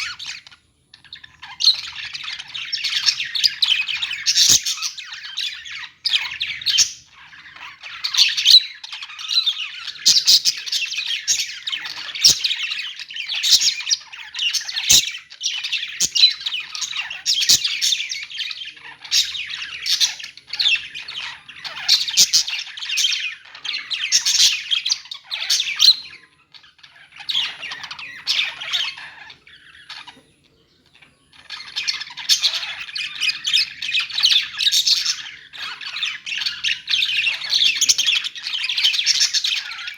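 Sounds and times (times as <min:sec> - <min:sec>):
parakeets chirping and squawking: 0:00.0 - 0:39.9.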